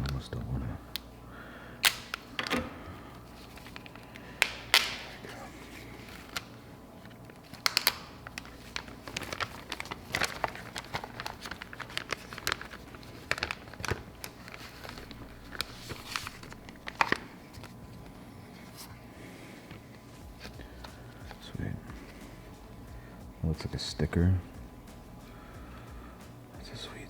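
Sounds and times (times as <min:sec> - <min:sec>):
paper and packaging crinkling: 0:01.8 - 0:24.4.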